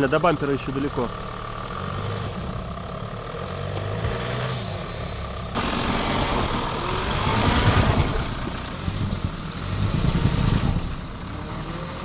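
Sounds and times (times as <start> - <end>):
diesel engine under light load: 0.0 - 12.0.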